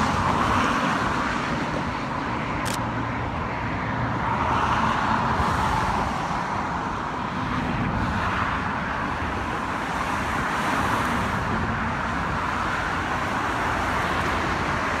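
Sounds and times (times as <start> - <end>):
freeway traffic hum: 0.0 - 15.0.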